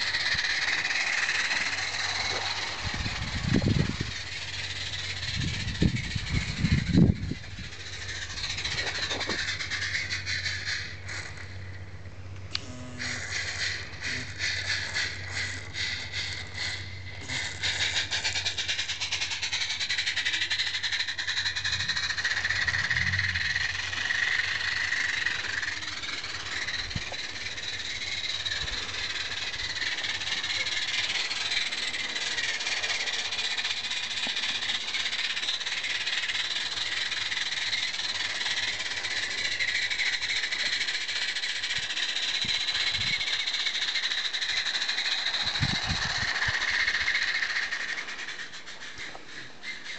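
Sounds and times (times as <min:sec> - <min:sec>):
model steam locomotive chuffing: 0:00.0 - 0:12.2, 0:12.9 - 0:49.9.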